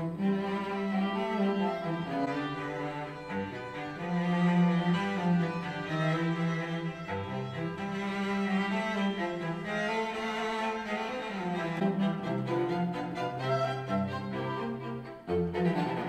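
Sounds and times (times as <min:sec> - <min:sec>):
classical string music: 0:00.0 - 0:16.0
low cello line: 0:00.0 - 0:16.0.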